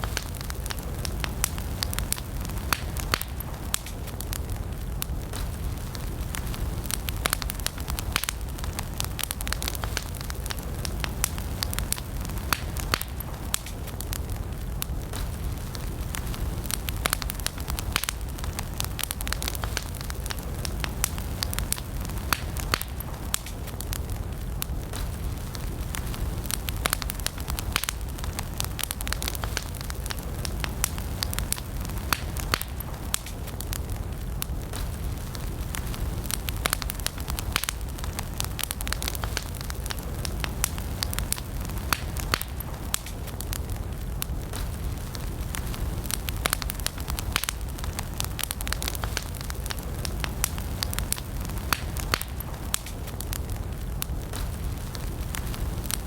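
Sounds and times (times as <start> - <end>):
campfire flames rushing: 0.0 - 56.0
fire crackles and pops: 0.0 - 56.0.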